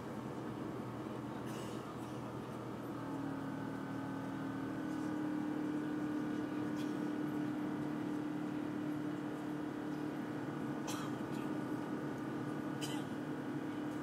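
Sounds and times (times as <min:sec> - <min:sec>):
jet engine drone in cabin: 0:00.0 - 0:14.0.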